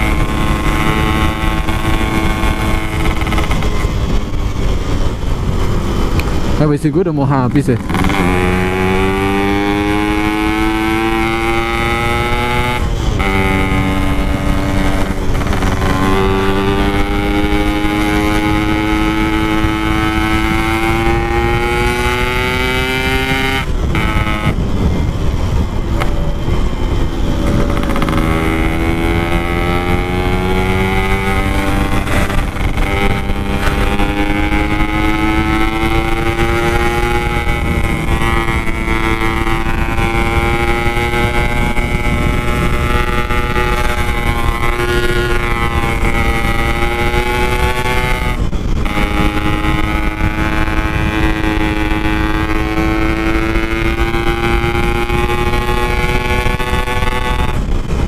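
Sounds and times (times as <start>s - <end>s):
low wind rush: 0.0s - 58.0s
two-stroke motorcycle engine: 0.0s - 58.0s.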